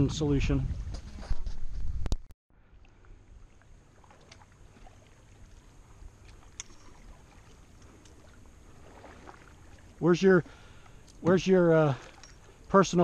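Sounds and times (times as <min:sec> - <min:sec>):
paddle in water: 0:02.6 - 0:13.0.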